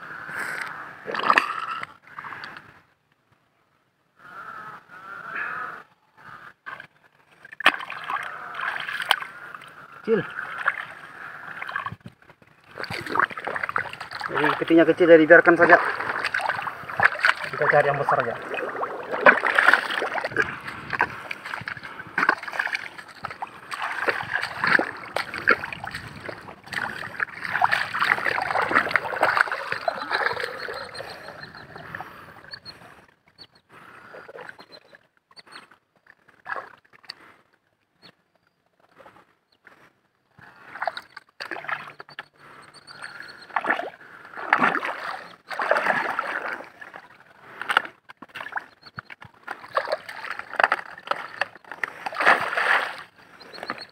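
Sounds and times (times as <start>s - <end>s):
muddy water splashing: 0.4s - 2.6s, 6.6s - 33.1s, 33.8s - 37.2s, 40.5s - 53.9s.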